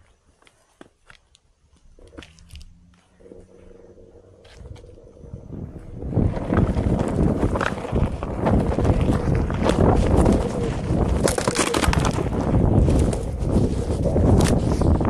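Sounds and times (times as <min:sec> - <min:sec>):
tyre rolling over dirt: 0:01.9 - 0:15.0
wind buffeting microphone: 0:01.9 - 0:15.0.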